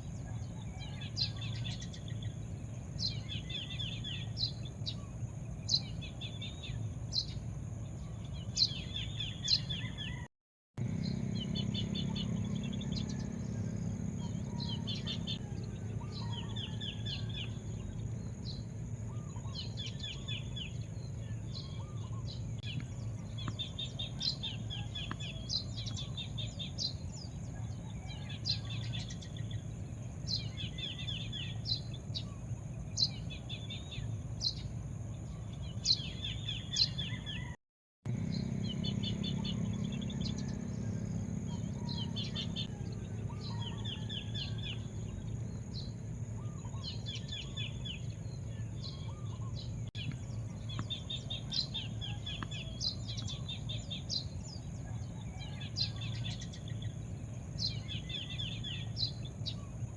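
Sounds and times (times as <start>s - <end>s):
birds chirping trills: 0.0s - 59.9s
low background rumble: 10.8s - 37.4s, 38.1s - 59.9s.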